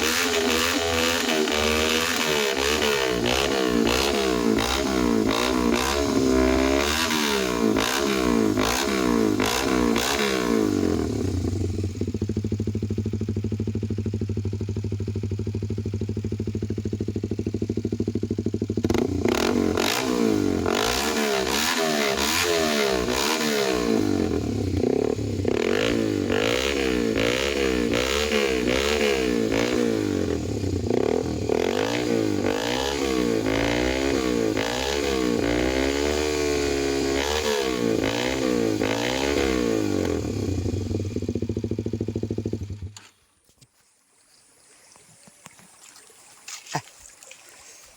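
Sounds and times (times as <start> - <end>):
motorcycle engine revving and idling: 0.0 - 43.1.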